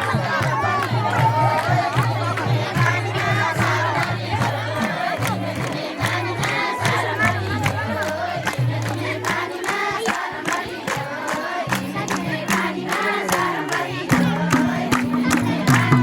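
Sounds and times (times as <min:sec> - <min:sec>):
crowd noise: 0:00.0 - 0:16.0
group singing folk song: 0:00.0 - 0:16.0
steady drum beat: 0:00.0 - 0:16.0.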